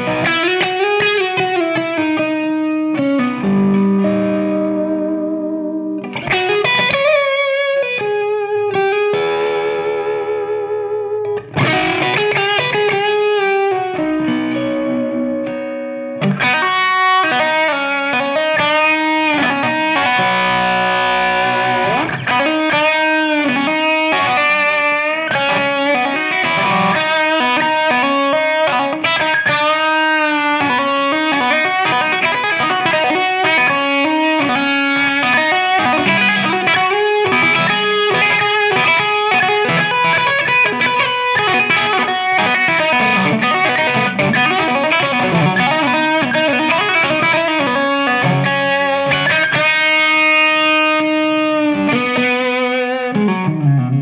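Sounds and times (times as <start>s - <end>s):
overdriven electric guitar lead: 0.0s - 54.0s.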